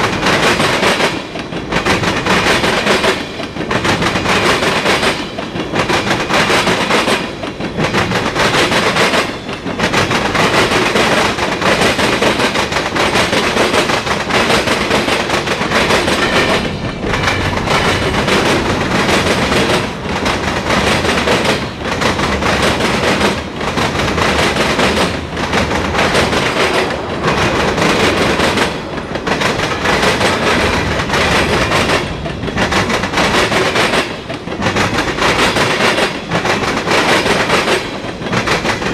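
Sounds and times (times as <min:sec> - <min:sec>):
freight train rolling past: 0:00.0 - 0:38.9
steel wheels clattering on rails: 0:00.0 - 0:38.9.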